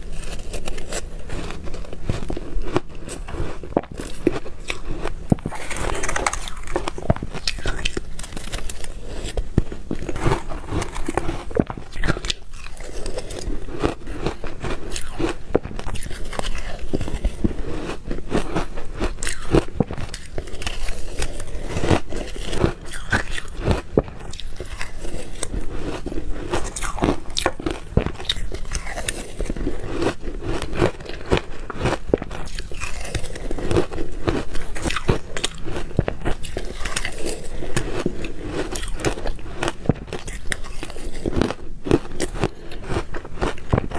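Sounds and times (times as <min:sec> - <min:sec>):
person chewing ice: 0:00.0 - 0:43.9.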